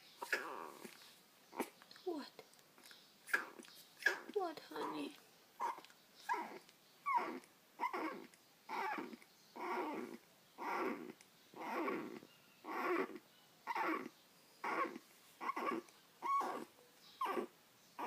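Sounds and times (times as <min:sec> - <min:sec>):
dog whining: 0:00.2 - 0:01.8, 0:03.3 - 0:18.0.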